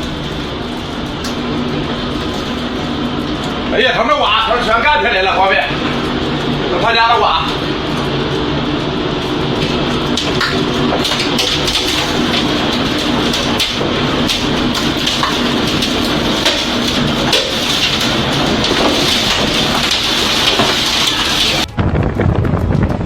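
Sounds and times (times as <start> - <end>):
heavy rain: 0.0 - 21.7.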